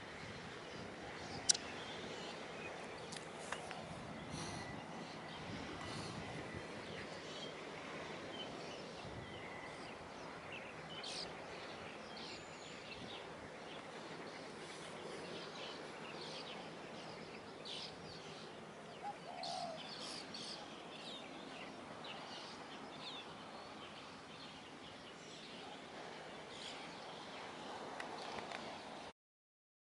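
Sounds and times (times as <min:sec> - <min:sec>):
faint outdoor background noise: 0:00.0 - 0:29.1.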